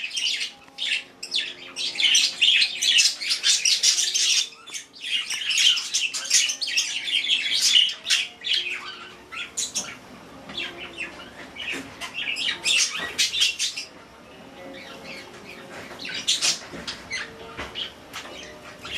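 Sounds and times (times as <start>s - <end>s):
budgerigars chirping and squawking: 0.0s - 14.0s, 14.6s - 18.9s.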